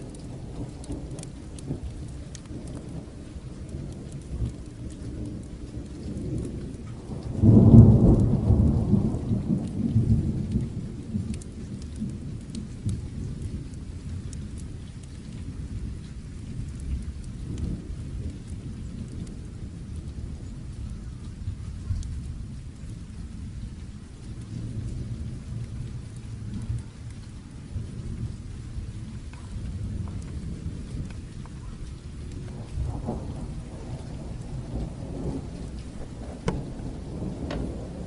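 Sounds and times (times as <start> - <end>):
steady rain: 0.0 - 38.0
thunder rumbling: 0.0 - 38.0.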